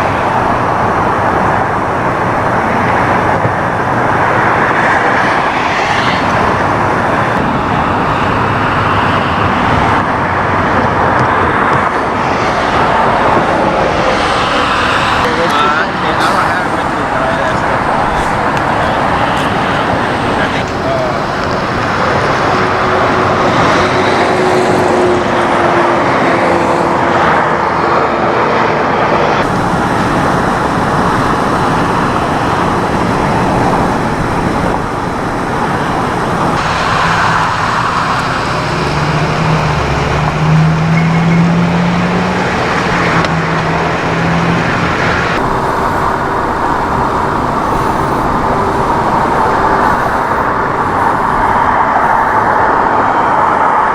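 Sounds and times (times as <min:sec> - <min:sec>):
engines humming close by: 0:00.0 - 0:53.9
freeway traffic noise: 0:00.0 - 0:53.9.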